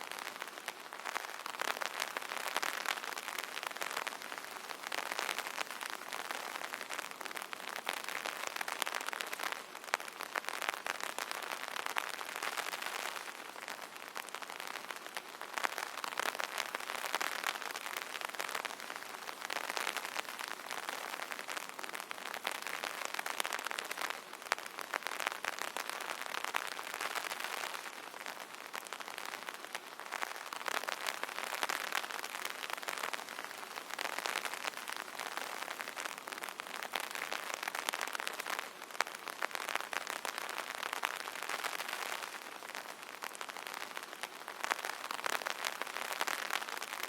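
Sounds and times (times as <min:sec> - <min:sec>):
rain pattering on umbrella: 0:00.0 - 0:47.0.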